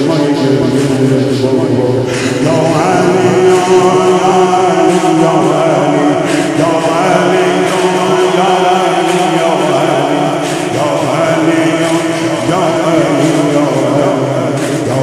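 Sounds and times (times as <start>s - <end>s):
man chanting a melody: 0.0s - 15.0s
steady low drone: 0.0s - 15.0s.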